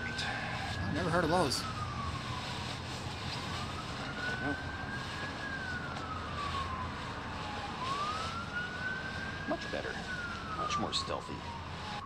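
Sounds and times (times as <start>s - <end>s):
emergency siren wailing: 0.0s - 12.0s.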